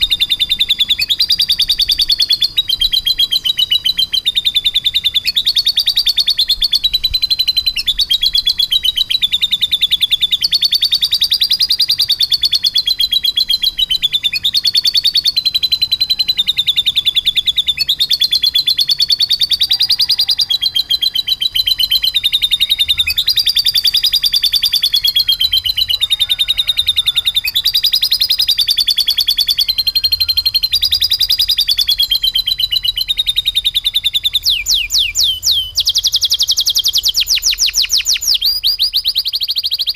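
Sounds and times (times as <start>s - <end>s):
canary trilling: 0.0s - 39.9s.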